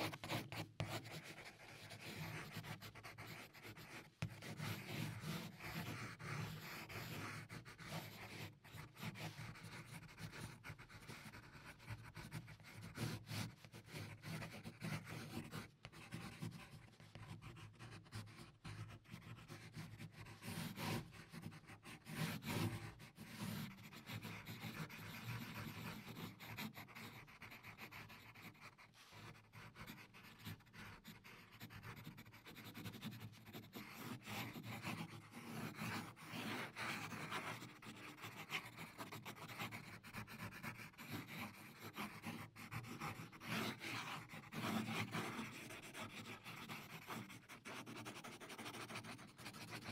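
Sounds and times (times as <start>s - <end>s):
pencil scratching on paper: 0.0s - 49.9s.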